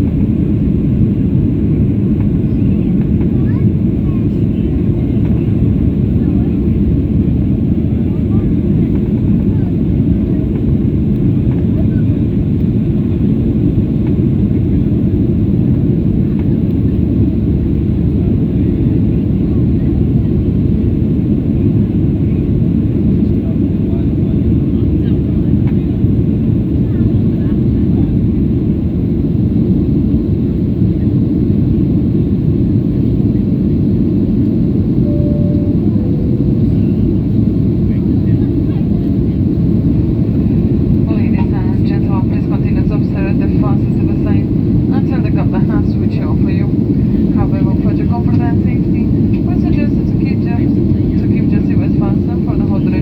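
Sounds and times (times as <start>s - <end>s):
jet engines at climb thrust: 0.0s - 35.1s, 35.8s - 53.0s.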